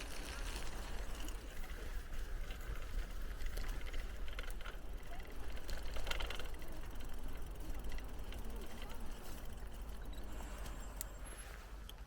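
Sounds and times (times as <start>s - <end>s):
bicycle clicks and rattles: 0.0s - 12.0s
bicycle tyre and drivetrain noise: 0.0s - 12.0s.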